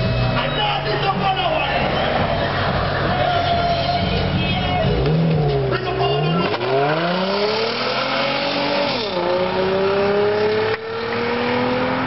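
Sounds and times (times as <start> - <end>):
car engine accelerating: 1.6 - 12.0.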